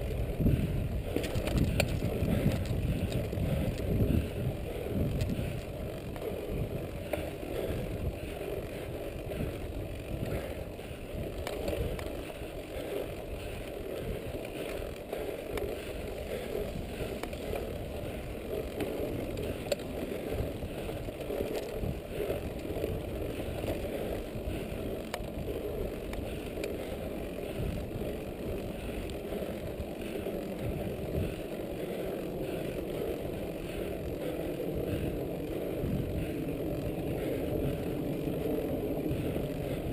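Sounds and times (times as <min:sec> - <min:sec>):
bike rattling: 0:00.0 - 0:39.9
bike tyres rumbling on dirt: 0:00.0 - 0:39.9.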